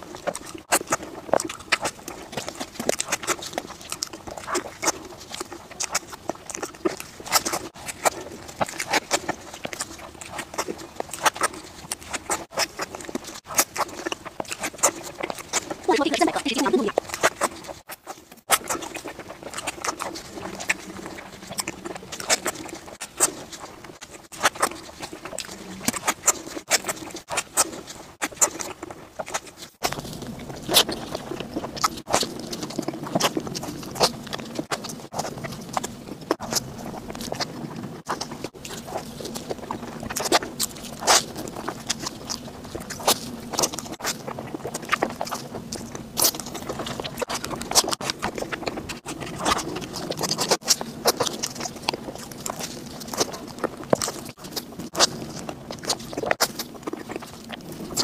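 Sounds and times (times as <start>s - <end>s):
chewing and wet mouth smacks: 0.0s - 58.0s
plastic gloves crinkling: 0.0s - 58.0s.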